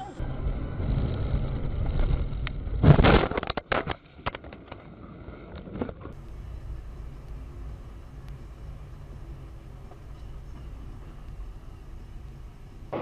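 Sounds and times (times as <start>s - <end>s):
road rumble: 0.0s - 13.0s.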